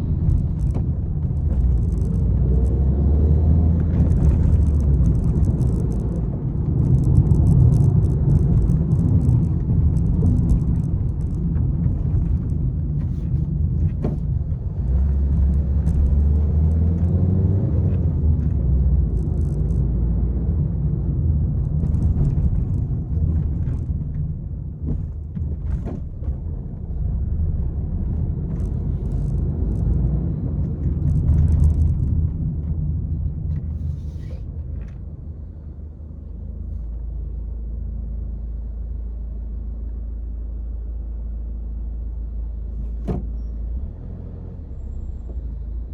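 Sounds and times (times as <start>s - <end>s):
car engine rumble: 0.0s - 45.9s
road noise: 0.0s - 45.9s.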